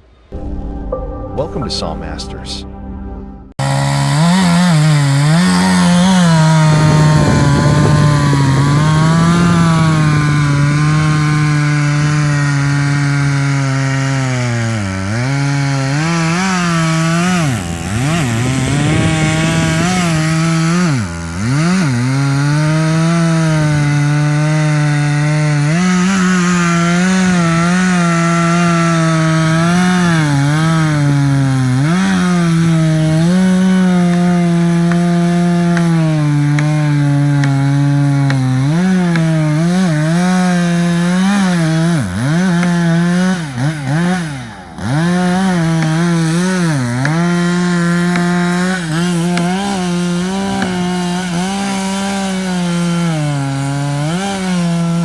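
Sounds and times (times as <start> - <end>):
chainsaw cutting wood: 3.6 - 55.0.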